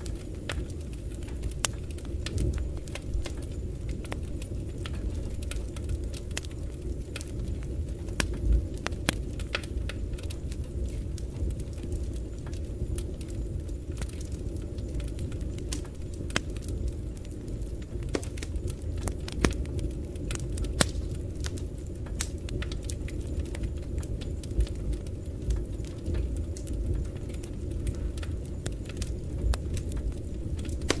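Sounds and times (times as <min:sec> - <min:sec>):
logs crackling and popping: 0:00.0 - 0:31.0
wood fire rumbling in a stove: 0:00.0 - 0:31.0.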